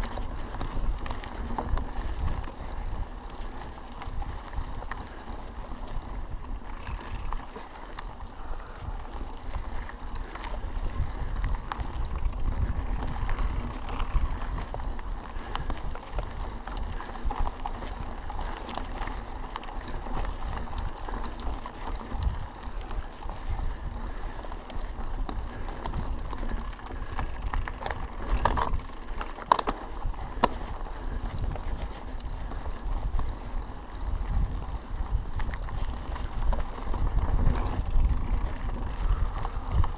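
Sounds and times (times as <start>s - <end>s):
bike rattling and clicking: 0.0s - 39.9s
bike tyres on gravel trail: 0.0s - 39.9s
wind rumble on microphone: 0.0s - 39.9s.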